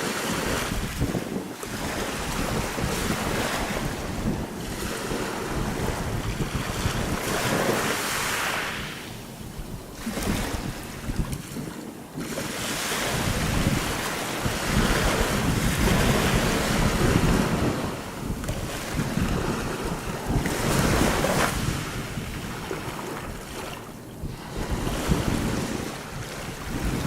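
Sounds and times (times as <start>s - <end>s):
waves washing over pebbles: 0.0s - 27.0s
wind rumbling on microphone: 0.0s - 27.0s.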